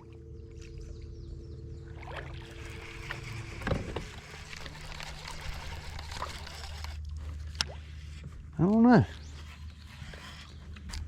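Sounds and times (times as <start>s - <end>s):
electric trolling motor humming: 0.0s - 11.0s.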